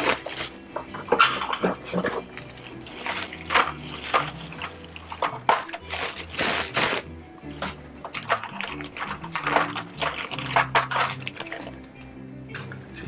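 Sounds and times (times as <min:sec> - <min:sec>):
plastic bag crinkling: 0:00.0 - 0:00.6, 0:01.8 - 0:11.9
background music with bass: 0:00.0 - 0:13.0.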